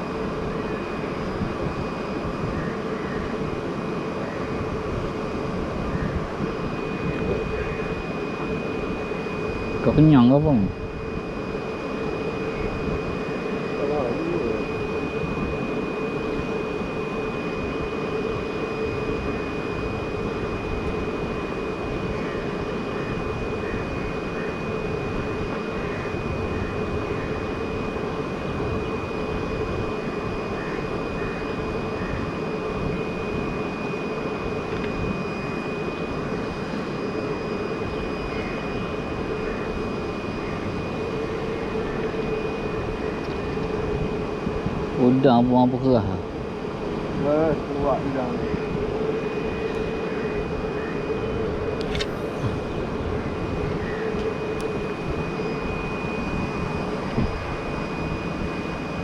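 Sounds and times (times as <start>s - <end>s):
droning hum: 0.0s - 59.0s
high-pitched whine: 0.0s - 59.0s.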